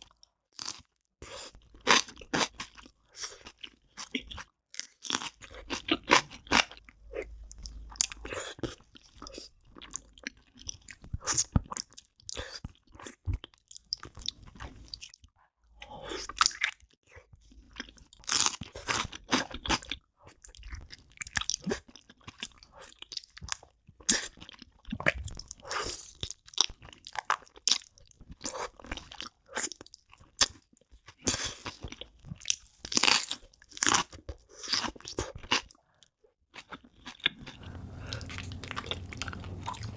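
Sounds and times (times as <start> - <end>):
person chewing and biting: 0.0 - 15.2, 16.0 - 35.8, 36.5 - 39.9.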